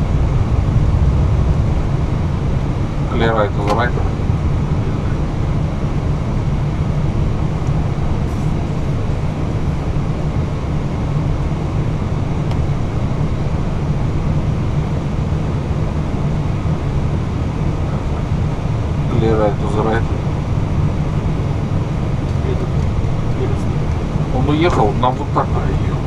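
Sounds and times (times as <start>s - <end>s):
airliner taxiing cockpit noise: 0.0s - 26.0s.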